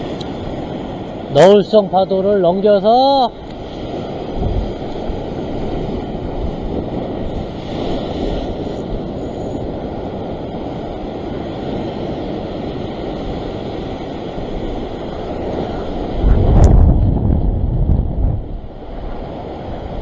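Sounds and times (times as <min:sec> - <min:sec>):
waves breaking on rocks: 0:00.0 - 0:20.0
wind buffeting microphone: 0:00.0 - 0:20.0.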